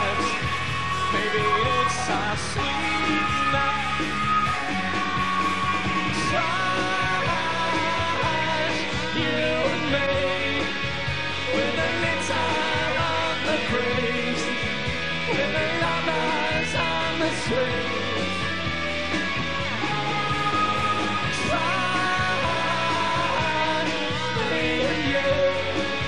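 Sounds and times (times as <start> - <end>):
man singing lead vocal: 0.0 - 18.8, 19.6 - 26.0
live rock band playing: 0.0 - 26.0
steady drum beat: 0.0 - 26.0.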